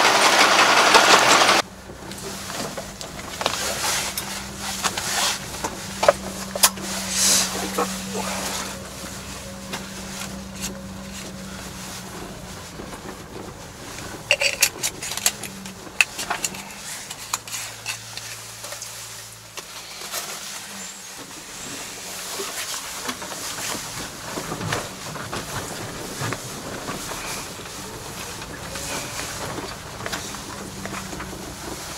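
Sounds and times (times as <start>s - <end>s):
knocks and rattles over ruts: 0.0s - 31.9s
truck engine hum: 0.0s - 31.9s.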